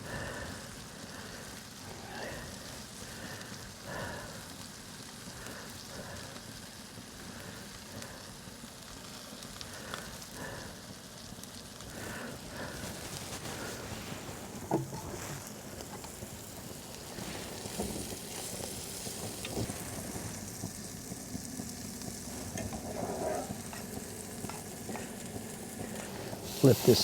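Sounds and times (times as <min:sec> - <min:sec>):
small crackles and pops: 0:00.0 - 0:27.0
steak sizzling in a pan: 0:00.0 - 0:27.0.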